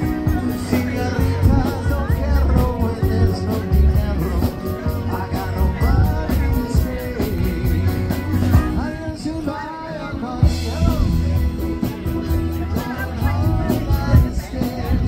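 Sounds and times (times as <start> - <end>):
person singing: 0.0 - 15.0
rock and roll song: 0.0 - 15.0.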